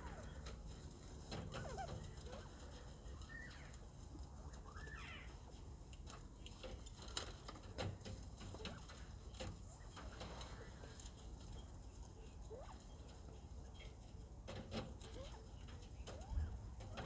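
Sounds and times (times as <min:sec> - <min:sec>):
small clicks and ticks: 0:00.0 - 0:17.0.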